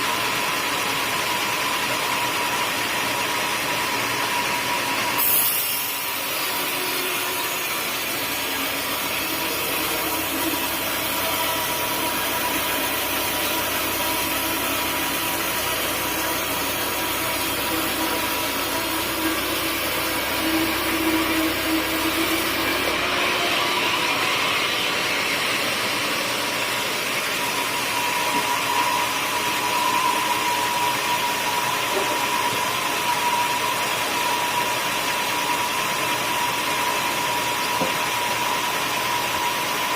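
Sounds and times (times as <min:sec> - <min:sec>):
machine whine: 0:00.0 - 0:39.9
sawmill machinery running: 0:00.0 - 0:39.9.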